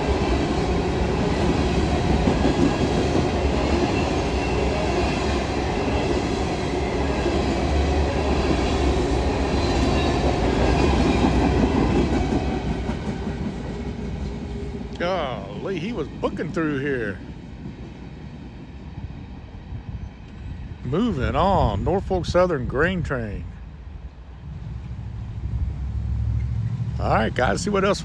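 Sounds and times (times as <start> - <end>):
train wheels rumbling and clattering: 0.0 - 22.0, 23.6 - 28.0.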